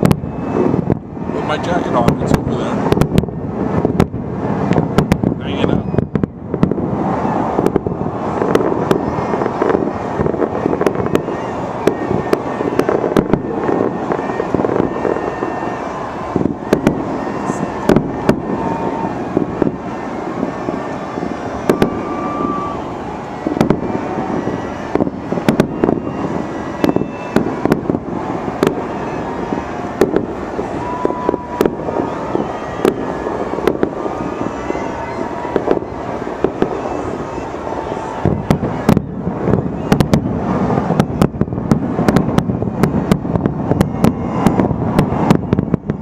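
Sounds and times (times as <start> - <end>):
fireworks bangs: 0.0 - 46.0
fireworks crackling and rumbling: 0.0 - 46.0.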